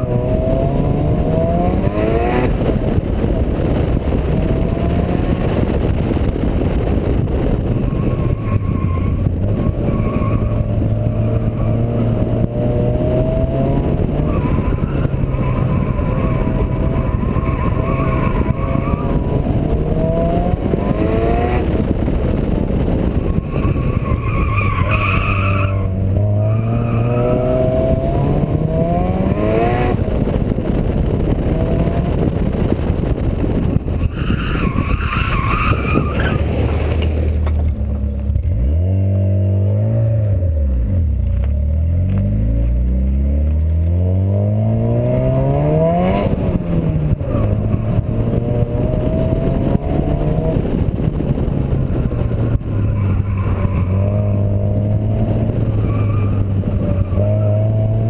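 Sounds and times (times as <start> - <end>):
four-cylinder engine revving: 0.0 - 34.0, 34.6 - 58.0.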